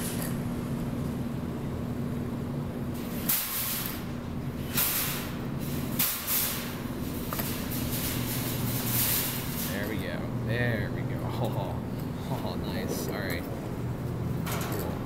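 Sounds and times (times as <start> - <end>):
claw machine electrical hum: 0.0 - 15.0.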